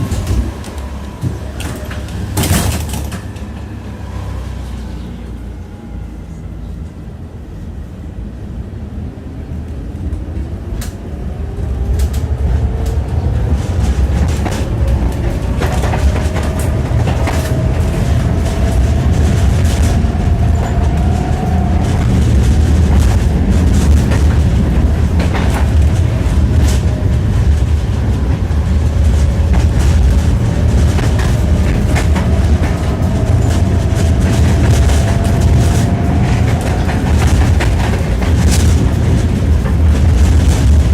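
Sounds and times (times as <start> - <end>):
tram wheels clattering over rail joints: 0.0 - 7.6, 9.8 - 40.9
steady tram rumble: 0.0 - 40.9
tram motor whine: 0.0 - 40.9.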